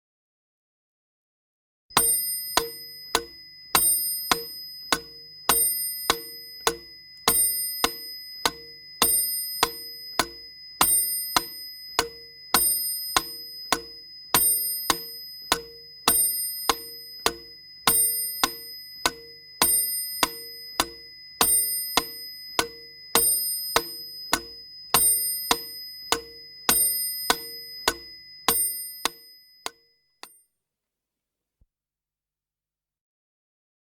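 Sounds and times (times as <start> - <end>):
metronome bell ding: 1.9 - 30.4
metronome ticking: 2.0 - 30.4.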